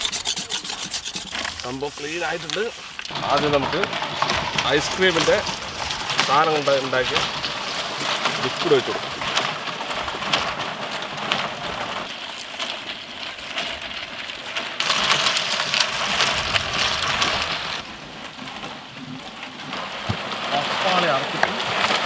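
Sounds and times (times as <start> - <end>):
crackling hiss on frozen drum: 0.0 - 22.0.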